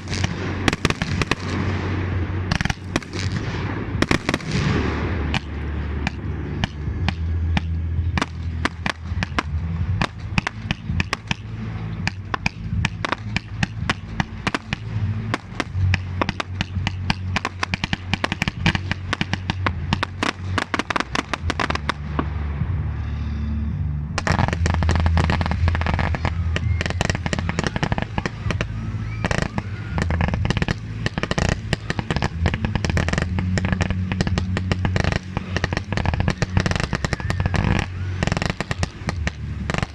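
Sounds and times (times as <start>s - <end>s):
fireworks bangs and crackles: 0.0s - 39.9s
rumble of fireworks booms: 0.0s - 39.9s.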